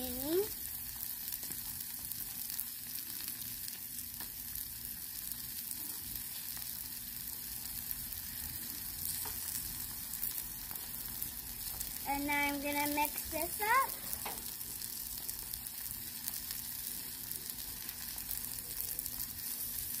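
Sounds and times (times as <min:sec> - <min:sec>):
food sizzling on a griddle: 0:00.0 - 0:20.0.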